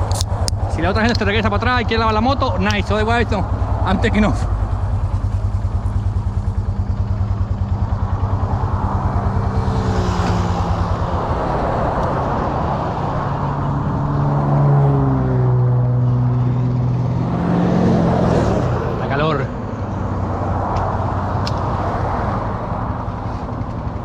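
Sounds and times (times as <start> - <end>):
atv engine pulsing: 0.0 - 24.0.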